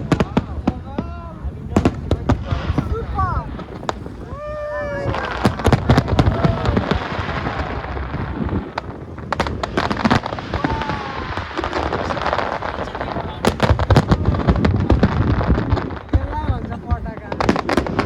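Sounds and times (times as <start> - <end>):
crowd murmur: 0.0 - 18.0
fireworks crackling and banging: 0.0 - 18.0.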